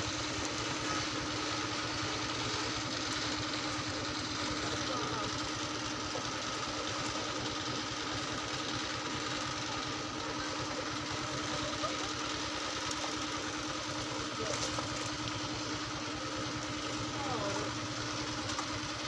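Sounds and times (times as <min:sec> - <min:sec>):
engine running with low chugging: 0:00.0 - 0:19.0
faint voices: 0:00.8 - 0:07.8, 0:08.7 - 0:19.0.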